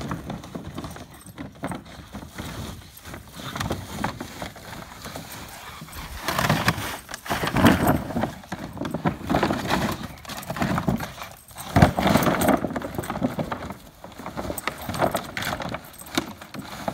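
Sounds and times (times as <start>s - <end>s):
plastic pool crumpling and scraping: 0.0s - 16.9s.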